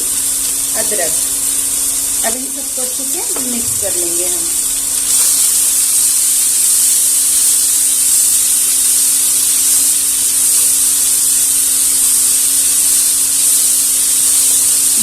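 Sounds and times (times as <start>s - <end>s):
faint steady hum: 0.0s - 15.0s
vegetables sizzling in a pan: 0.0s - 15.0s.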